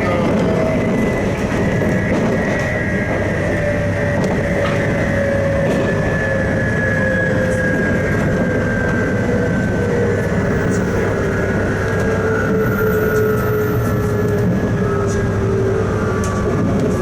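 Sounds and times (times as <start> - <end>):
electric train running: 0.0 - 17.0.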